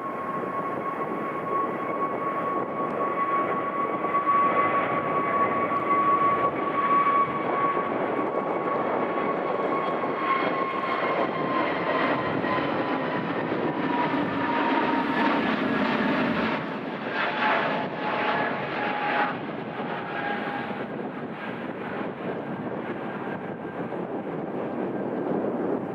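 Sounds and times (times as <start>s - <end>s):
airliner engines rumbling: 0.0s - 25.9s.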